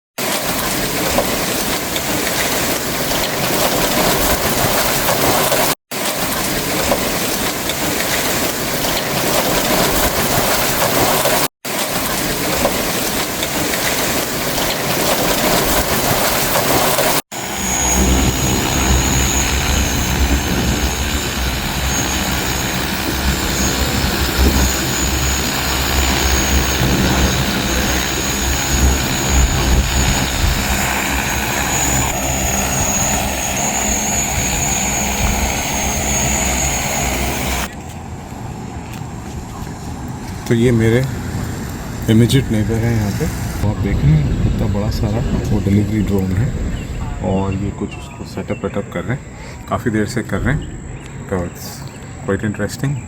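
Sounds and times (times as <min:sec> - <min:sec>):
drone propellers and motors: 0:00.2 - 0:47.5
steady rushing noise: 0:00.2 - 0:48.6.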